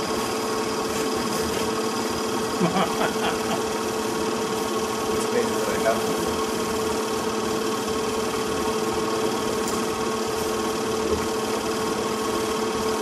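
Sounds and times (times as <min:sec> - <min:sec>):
film projector whirring: 0:00.0 - 0:13.0.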